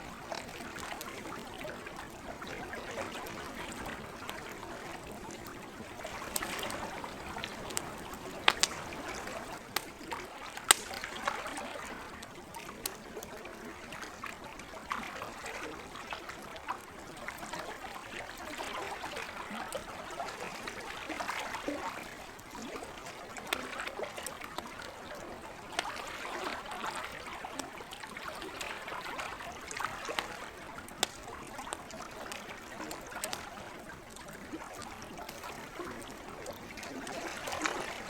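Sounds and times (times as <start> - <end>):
campfire crackling: 0.0 - 38.0
lake water lapping: 0.0 - 38.0.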